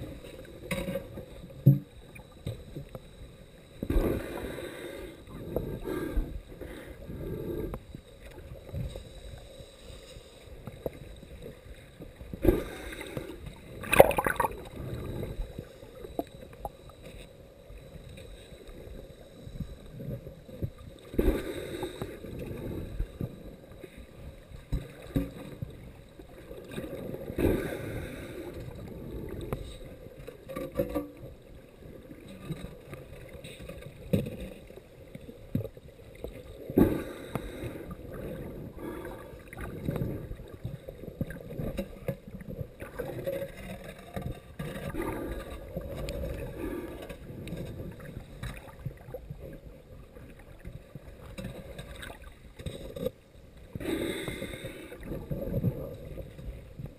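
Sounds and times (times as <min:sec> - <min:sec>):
muffled underwater water sloshing: 0:00.0 - 0:56.9.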